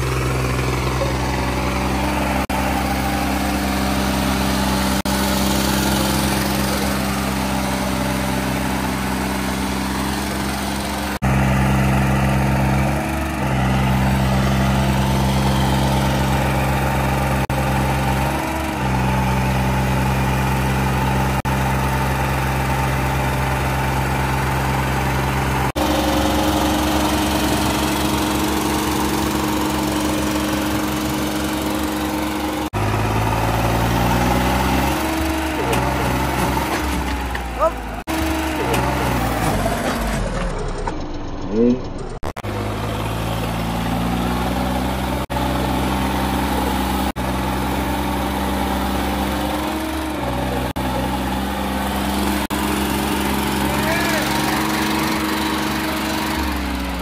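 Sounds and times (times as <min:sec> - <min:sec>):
diesel tractor engines droning: 0:00.0 - 0:57.0.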